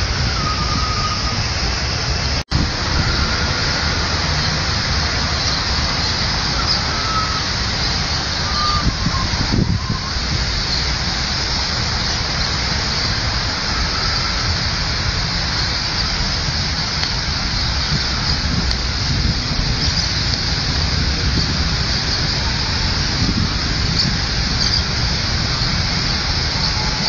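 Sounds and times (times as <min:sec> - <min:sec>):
fountain water splashing: 0:00.0 - 0:27.0.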